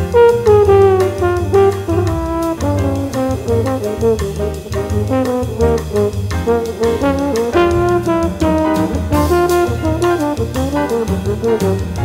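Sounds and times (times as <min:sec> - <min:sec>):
jazz music with brass: 0:00.0 - 0:12.0.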